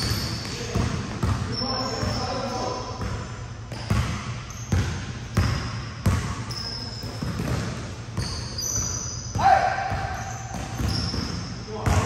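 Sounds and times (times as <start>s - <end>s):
basketball bouncing on court floor: 0.0s - 12.0s.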